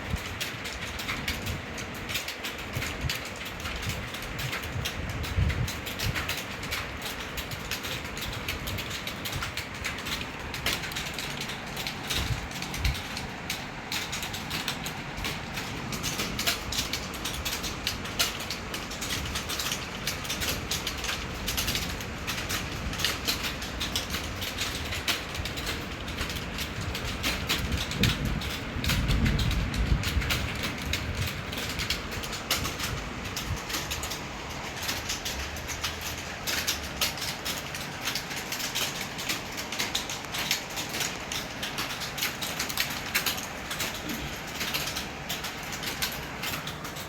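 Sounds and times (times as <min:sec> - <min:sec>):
fast typing on a keyboard: 0:00.0 - 0:47.0.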